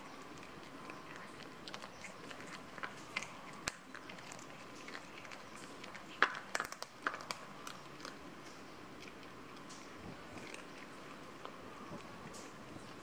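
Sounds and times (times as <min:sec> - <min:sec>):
cats crunching fish bones: 0:00.0 - 0:13.0.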